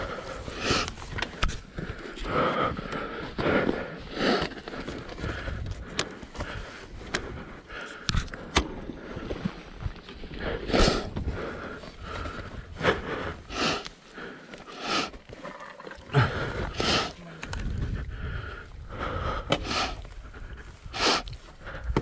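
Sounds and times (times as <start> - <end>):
person breathing hard: 0.0 - 22.0.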